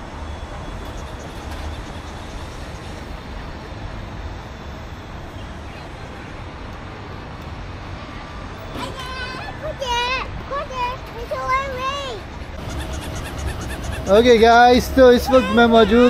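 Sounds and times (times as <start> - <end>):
traffic rumble and hiss: 0.0 - 16.0.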